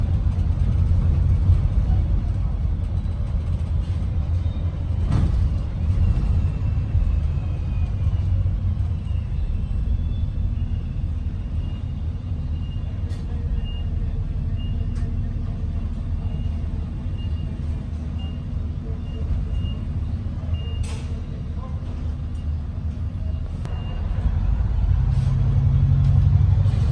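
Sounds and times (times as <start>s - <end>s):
bus engine and road rumble: 0.0s - 26.9s.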